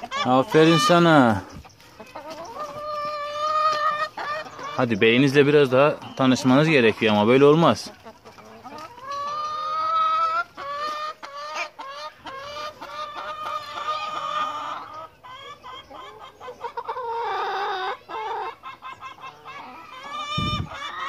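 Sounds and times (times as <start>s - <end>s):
hens clucking and calling: 0.0s - 21.0s.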